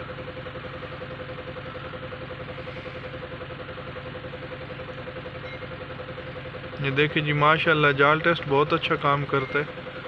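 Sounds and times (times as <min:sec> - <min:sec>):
diesel engine idling: 0:00.0 - 0:10.0
engine whine: 0:00.0 - 0:10.0.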